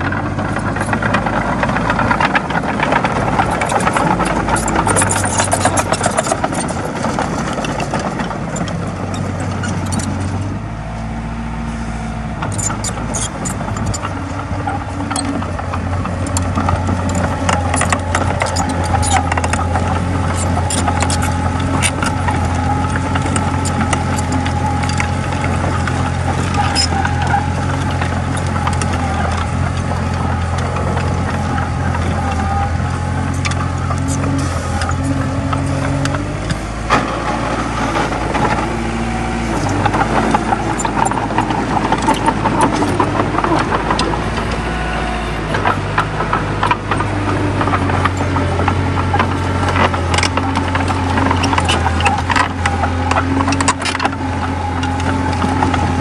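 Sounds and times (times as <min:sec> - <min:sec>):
rapid clatter of clicks and knocks: 0:00.0 - 0:10.5, 0:12.4 - 0:44.8, 0:45.4 - 0:56.0
diesel engine running: 0:00.0 - 0:56.0.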